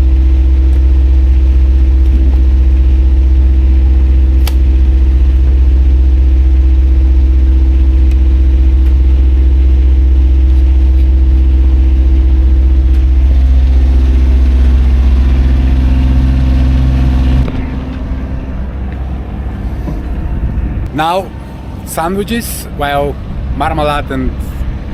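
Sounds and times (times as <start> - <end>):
boat engine droning: 0.0 - 24.9.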